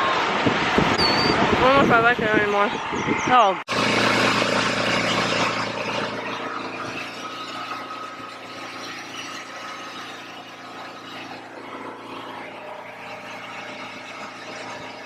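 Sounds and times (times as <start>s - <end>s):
mechanical hum with high whine: 0.0s - 15.0s.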